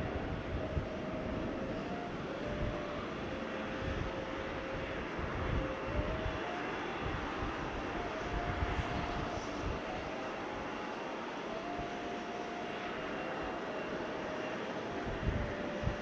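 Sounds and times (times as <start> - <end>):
jet airliner taking off: 0.0 - 16.0.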